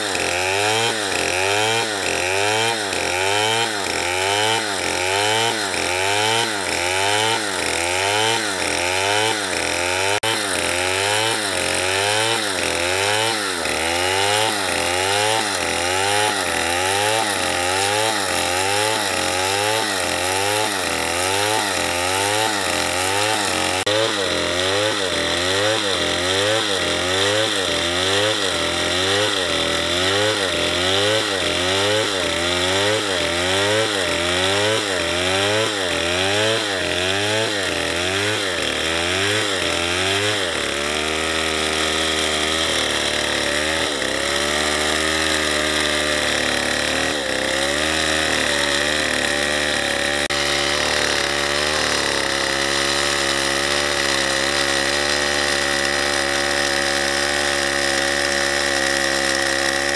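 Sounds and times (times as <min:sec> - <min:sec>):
chainsaw cutting logs: 0:00.0 - 0:59.9.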